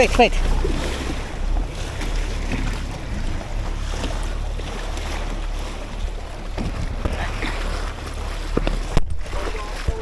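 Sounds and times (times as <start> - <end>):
sea water washing around boats: 0.0 - 10.0.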